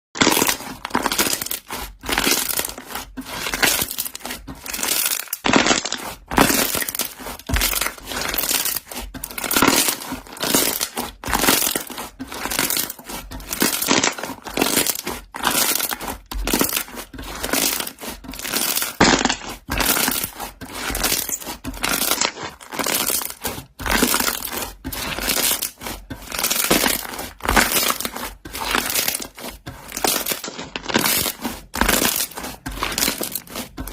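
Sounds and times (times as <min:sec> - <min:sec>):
slime bubbles popping and crackling: 0:00.2 - 0:33.9.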